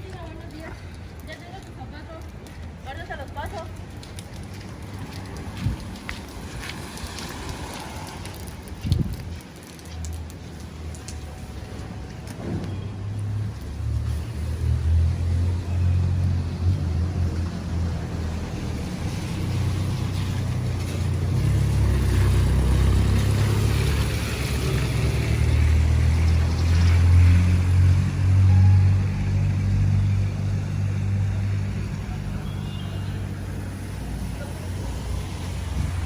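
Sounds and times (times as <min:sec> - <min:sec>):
traffic rumble: 0:00.0 - 0:36.0
tyres hissing on wet road: 0:03.4 - 0:36.0.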